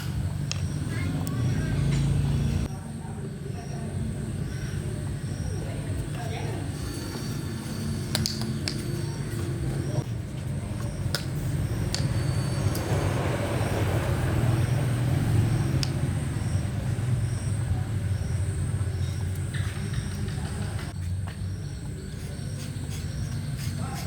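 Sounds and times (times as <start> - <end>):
low mechanical rumble: 0.0 - 23.6.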